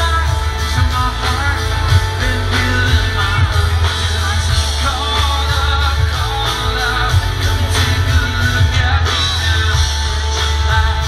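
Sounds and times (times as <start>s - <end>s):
heavy steady bass: 0.0s - 11.0s
live rock band with singer: 0.0s - 11.0s.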